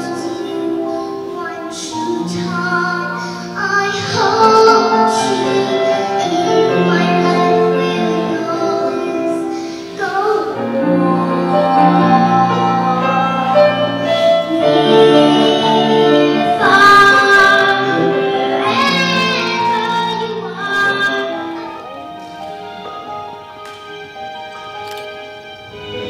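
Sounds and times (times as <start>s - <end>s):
girl singing into a microphone: 0.0s - 13.8s, 14.4s - 21.8s
grand piano accompaniment: 0.0s - 26.0s.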